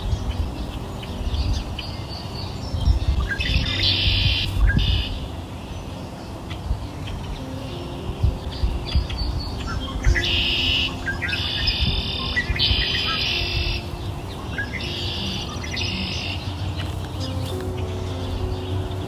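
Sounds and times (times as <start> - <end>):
soft background music: 0.0 - 19.0
bird twittering: 0.3 - 19.0.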